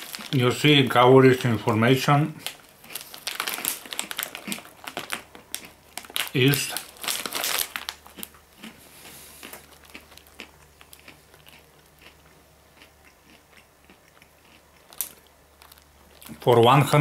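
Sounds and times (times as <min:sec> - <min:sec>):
crunching of peanuts being chewed: 0:02.4 - 0:16.6.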